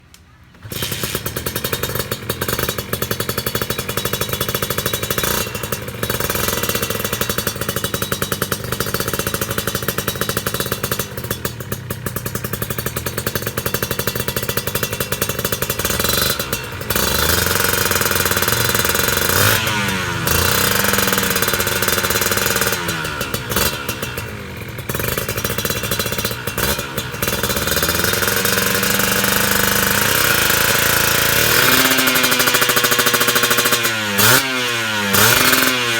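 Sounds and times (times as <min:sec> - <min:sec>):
two-stroke motorcycle engine revving: 0:00.6 - 0:35.9.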